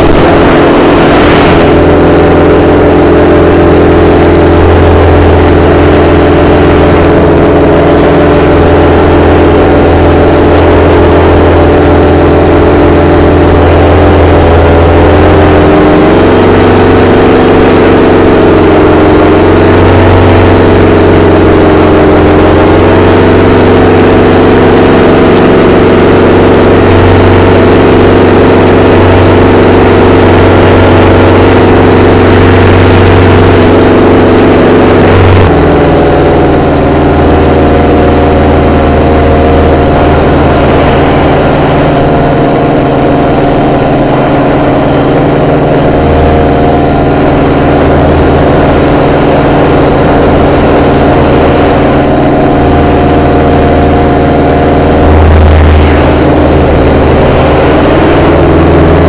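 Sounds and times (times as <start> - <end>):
paramotor engine running: 0.0 - 59.0.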